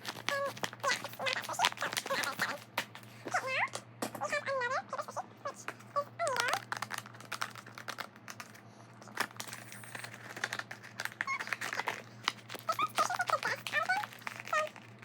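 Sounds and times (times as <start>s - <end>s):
plastic packaging crinkling: 0.0s - 3.6s, 5.6s - 15.0s.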